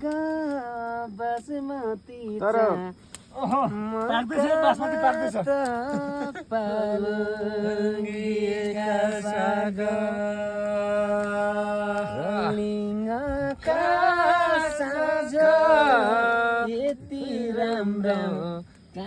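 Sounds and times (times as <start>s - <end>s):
chant-like singing: 0.0s - 19.0s.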